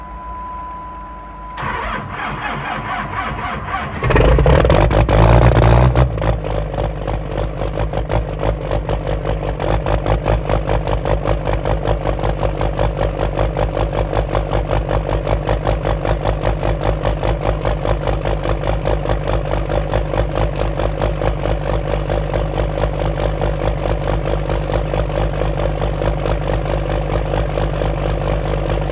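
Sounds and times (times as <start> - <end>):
diesel engine starting and idling: 1.5 - 28.9.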